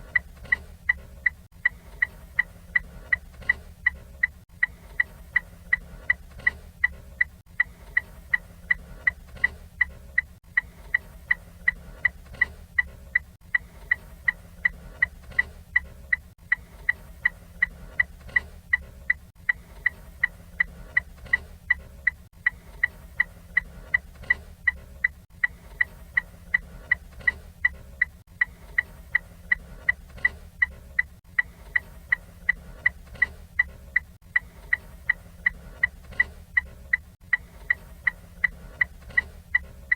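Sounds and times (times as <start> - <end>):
steady low hum: 0.0 - 39.9
turn signal ticking: 0.0 - 39.9.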